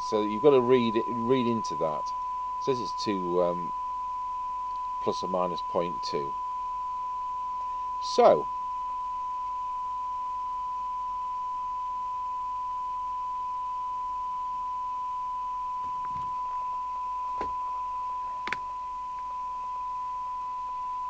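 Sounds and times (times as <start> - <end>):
steady test tone: 0.0 - 21.0.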